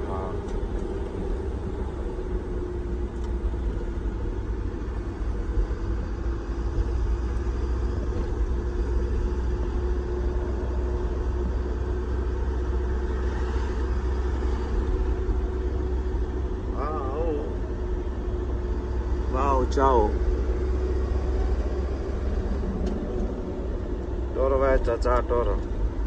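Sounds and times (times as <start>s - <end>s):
car cabin road noise: 0.0s - 26.0s
steady hum: 0.0s - 26.0s.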